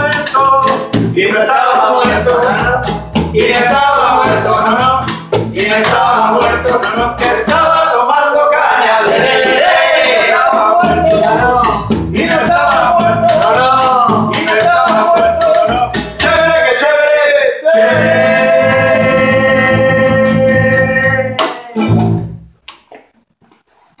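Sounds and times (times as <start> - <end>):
upright double bass: 0.0 - 8.1, 8.8 - 16.8, 17.7 - 22.6
acoustic guitar strumming: 0.0 - 8.3, 9.0 - 16.7, 17.7 - 22.6
man singing: 0.0 - 22.0.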